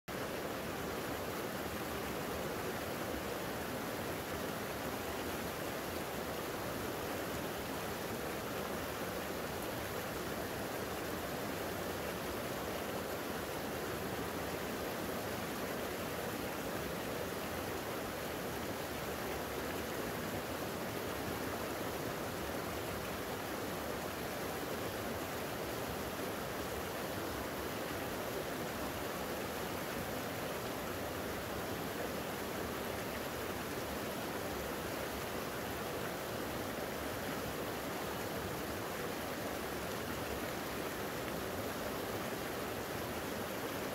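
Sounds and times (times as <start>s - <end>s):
creek water running: 0.1s - 43.9s.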